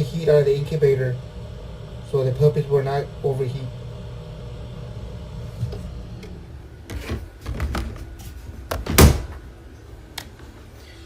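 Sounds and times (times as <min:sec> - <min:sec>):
cooling fan hum: 0:00.0 - 0:11.0.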